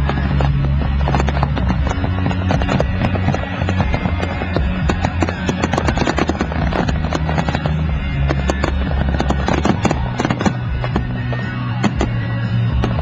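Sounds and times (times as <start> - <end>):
fireworks popping and crackling: 0.0 - 13.0
music with low bass notes: 0.0 - 13.0.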